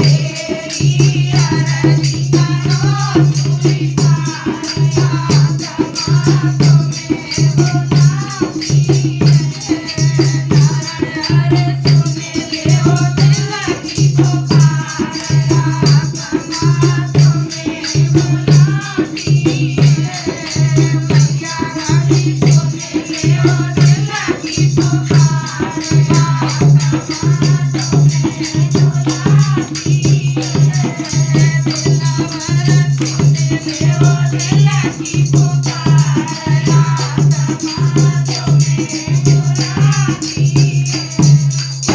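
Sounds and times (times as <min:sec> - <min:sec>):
shaker rattle: 0:00.0 - 0:41.9.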